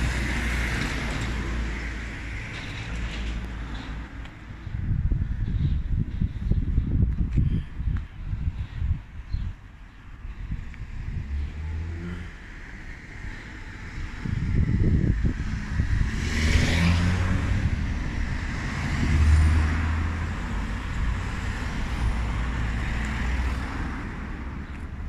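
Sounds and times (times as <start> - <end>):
cars passing: 0.0 - 7.0, 10.2 - 25.0
steady low traffic rumble: 0.0 - 25.0.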